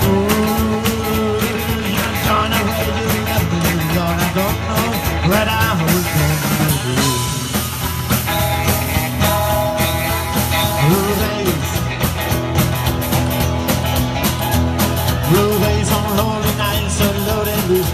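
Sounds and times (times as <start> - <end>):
bass guitar: 0.0 - 17.9
drums: 0.0 - 17.9
electric guitar lead bending notes: 0.0 - 17.9
strummed acoustic guitar: 0.0 - 17.9.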